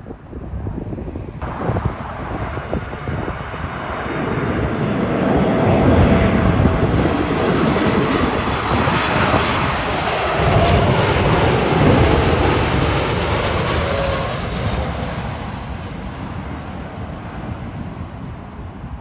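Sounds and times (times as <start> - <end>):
faint jet whine: 0.0 - 19.0
jet engines passing overhead: 0.0 - 19.0.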